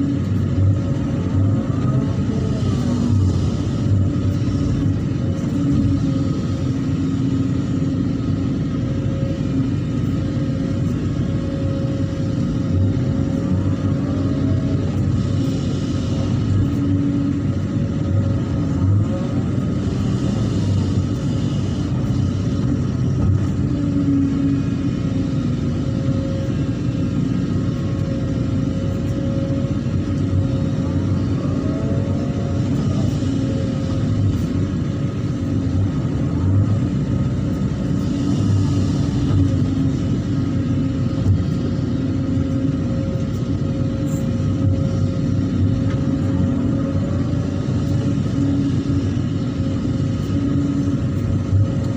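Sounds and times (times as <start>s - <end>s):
excavator diesel engine rumbling: 0.0s - 51.9s.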